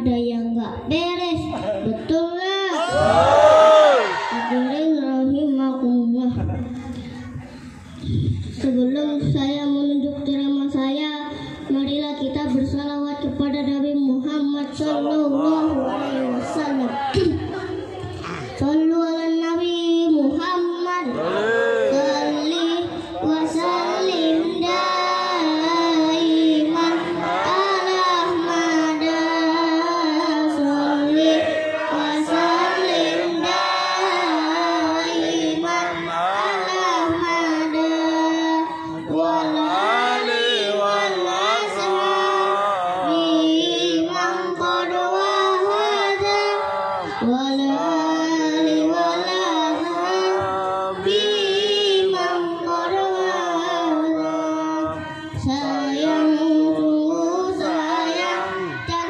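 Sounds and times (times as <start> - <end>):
boy singing into a microphone: 0.0 - 59.0.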